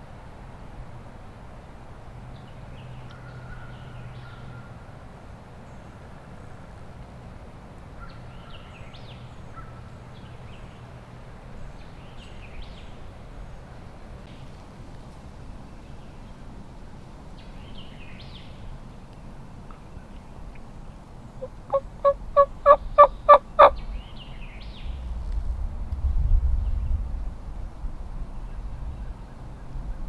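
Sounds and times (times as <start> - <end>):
songbirds chirping: 1.5 - 25.4, 28.0 - 30.0.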